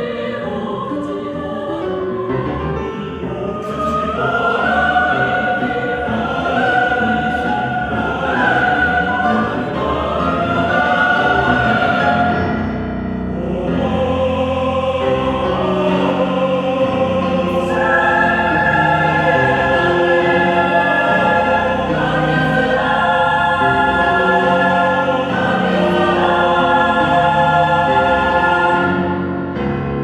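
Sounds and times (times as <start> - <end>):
choir singing sustained chords: 0.0 - 30.0
piano accompaniment: 0.0 - 30.0.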